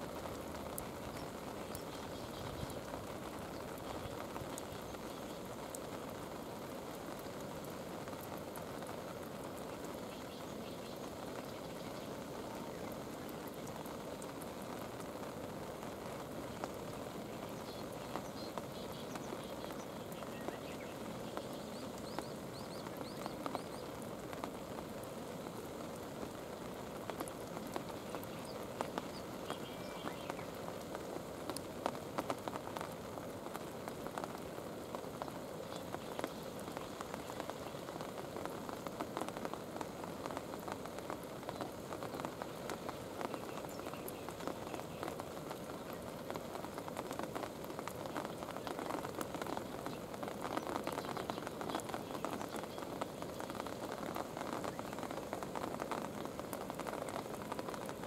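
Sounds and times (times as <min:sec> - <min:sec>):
steady rain falling: 0:00.0 - 0:58.0
raindrop ticks: 0:00.1 - 0:58.0.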